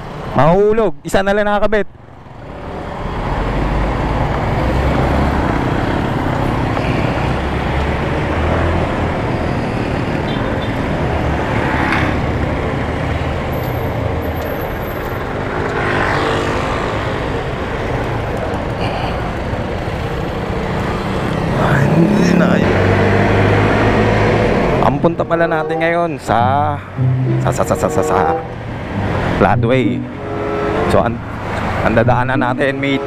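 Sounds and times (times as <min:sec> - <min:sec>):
road and wind noise: 0:00.0 - 0:33.0
surrounding traffic: 0:00.0 - 0:33.0.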